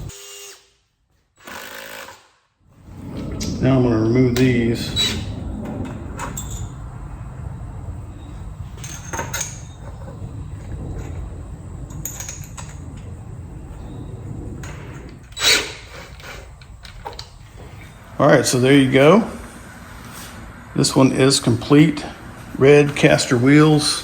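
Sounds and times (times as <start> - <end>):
low steady rumble: 2.6 - 24.0.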